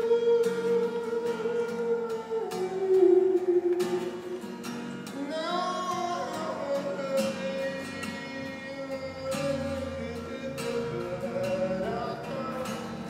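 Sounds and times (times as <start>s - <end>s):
man singing a held note: 0.0s - 12.9s
strummed acoustic guitar: 0.0s - 13.0s.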